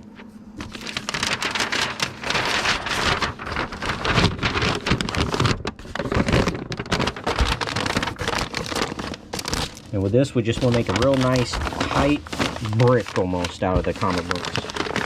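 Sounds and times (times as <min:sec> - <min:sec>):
envelope crinkling and rustling: 0:00.0 - 0:15.0.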